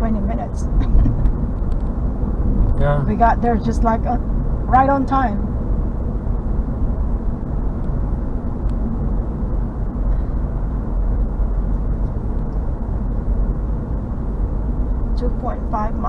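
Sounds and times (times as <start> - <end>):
car engine: 0.0 - 16.0.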